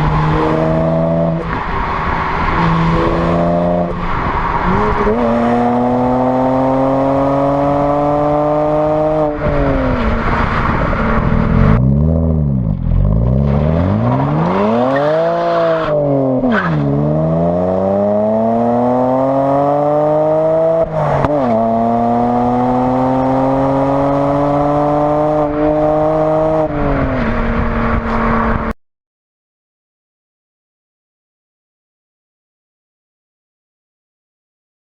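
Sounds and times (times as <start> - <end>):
car engine revving through gears: 0.0 - 28.7.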